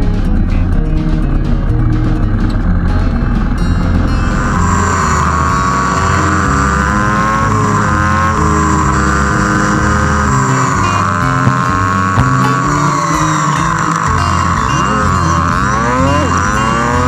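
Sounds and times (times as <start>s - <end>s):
sped-up motorcycle engine whine: 0.0s - 17.0s.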